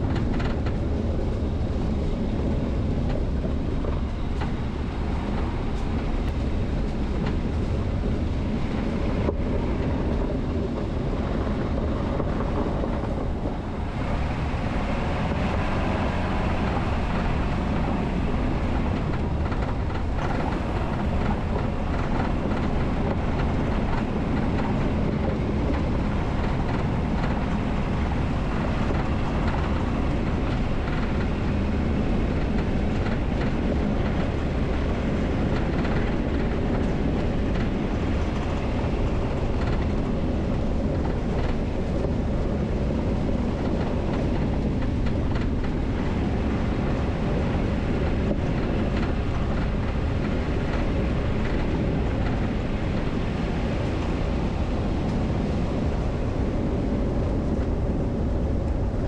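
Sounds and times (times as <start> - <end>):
tyre and road noise: 0.0 - 59.0
vehicle road rumble: 0.0 - 59.0.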